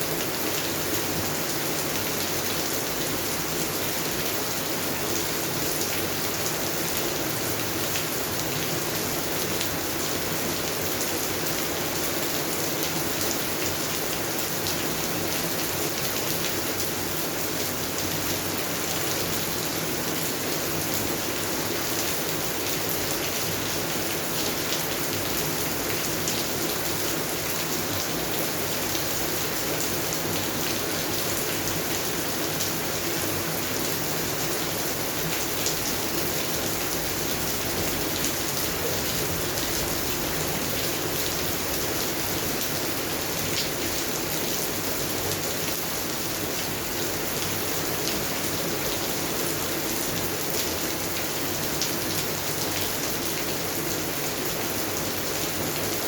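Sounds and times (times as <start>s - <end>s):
rain falling on plants: 0.0s - 56.0s.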